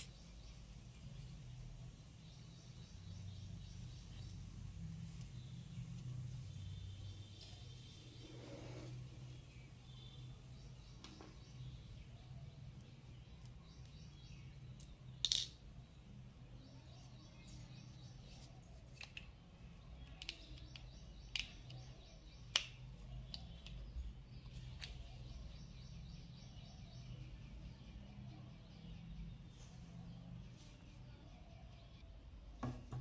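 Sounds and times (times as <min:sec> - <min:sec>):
bird chirps and trills: 0:00.0 - 0:32.2.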